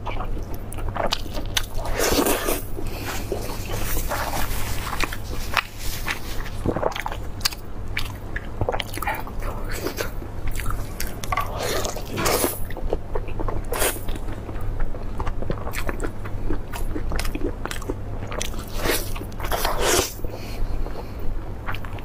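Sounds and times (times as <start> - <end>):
chewing: 0.0 - 20.2
steady low hum: 0.0 - 22.0.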